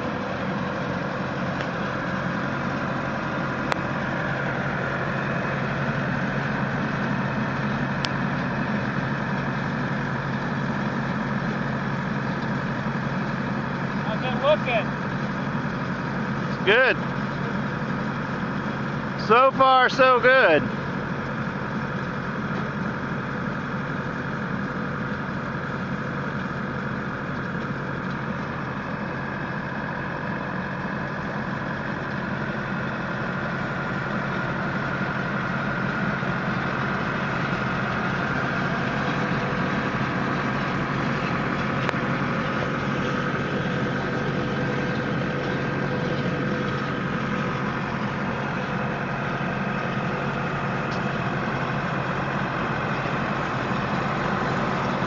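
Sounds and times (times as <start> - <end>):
turf machine engine pulsing: 0.0 - 55.0.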